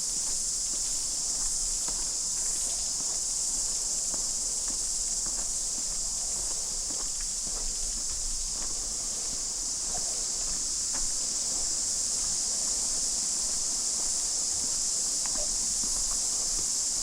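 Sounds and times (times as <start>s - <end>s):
cicadas singing: 0.0s - 17.0s
footsteps on garden path: 0.0s - 17.0s.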